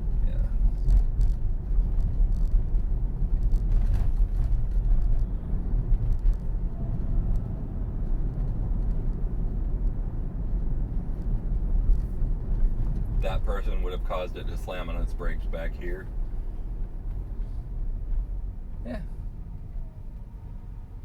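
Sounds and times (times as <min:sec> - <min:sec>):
road and tyre rumble in car cabin: 0:00.0 - 0:21.0.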